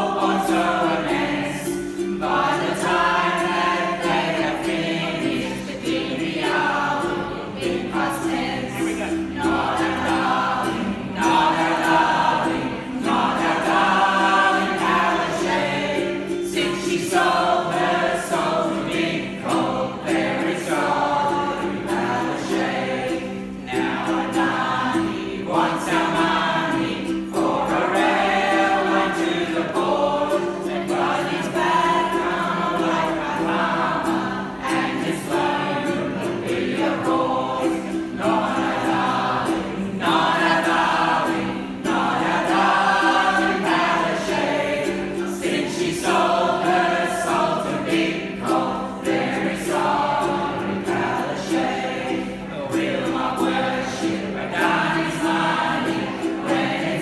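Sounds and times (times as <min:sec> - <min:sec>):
group singing: 0:00.0 - 0:57.0
strummed ukulele: 0:00.0 - 0:57.0.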